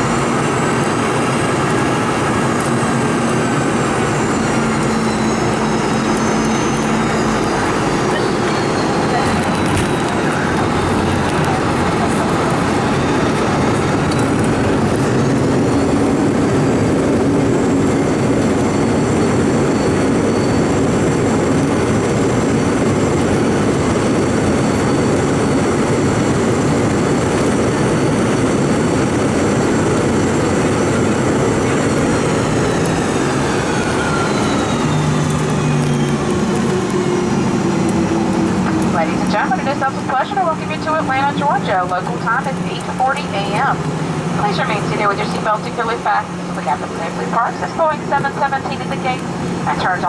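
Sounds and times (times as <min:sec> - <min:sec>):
jet engine whine: 0:00.0 - 0:50.0
loud rumble: 0:00.0 - 0:50.0.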